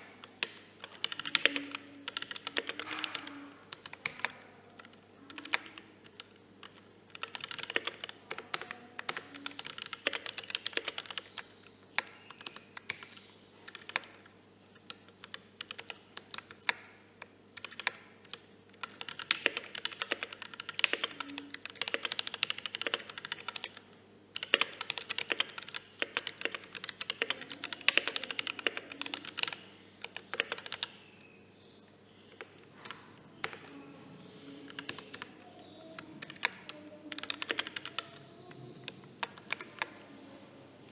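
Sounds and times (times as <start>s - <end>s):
mechanical keyboard typing: 0.0s - 31.0s, 32.3s - 40.1s.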